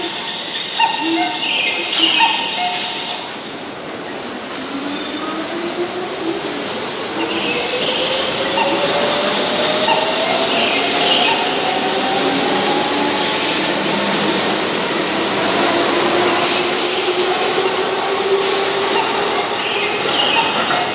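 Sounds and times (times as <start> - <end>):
electric train pulling away: 2.1 - 20.9.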